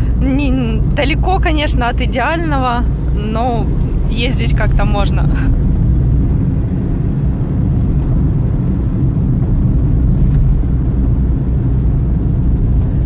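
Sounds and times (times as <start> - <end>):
car engine rumble: 0.0 - 13.0
tyres on road: 0.0 - 13.0.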